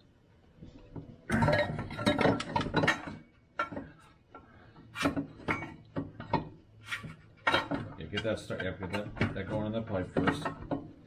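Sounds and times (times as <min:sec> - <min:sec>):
metal clanking and scraping: 0:01.3 - 0:11.0.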